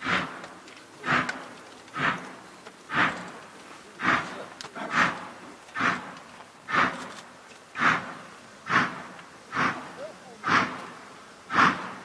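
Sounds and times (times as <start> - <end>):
steam locomotive exhaust barking: 0.0 - 7.1, 7.8 - 12.0.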